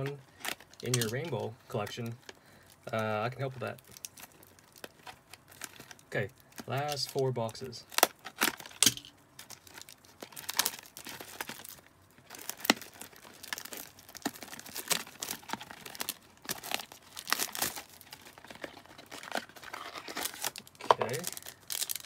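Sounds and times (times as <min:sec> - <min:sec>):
plastic wrapping crinkling and tearing: 0:00.0 - 0:22.0.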